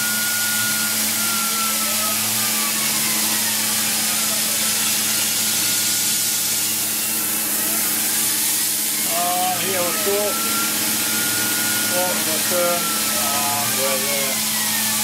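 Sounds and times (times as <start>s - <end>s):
machine hum: 0.0s - 15.0s
cutting hiss: 2.0s - 15.0s.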